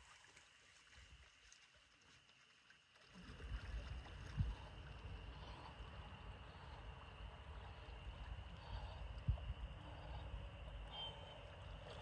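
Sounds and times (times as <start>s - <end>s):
faint water sloshing: 0.0s - 12.0s.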